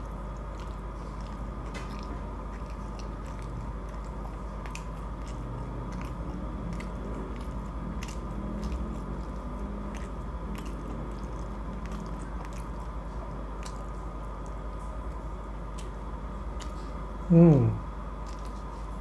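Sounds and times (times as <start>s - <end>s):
person chewing food: 0.0s - 17.3s, 18.0s - 19.0s
steady background hum: 0.0s - 19.0s.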